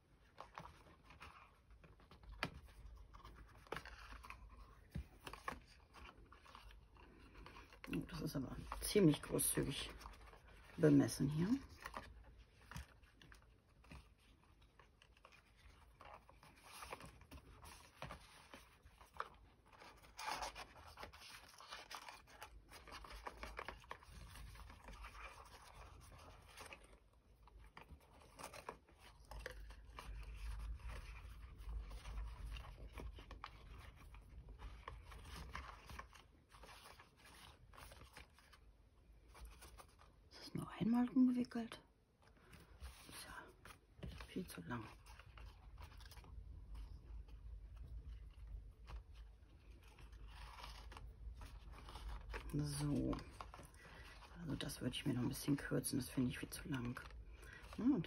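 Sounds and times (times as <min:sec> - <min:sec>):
twine and paper rustling: 0:00.0 - 0:58.0.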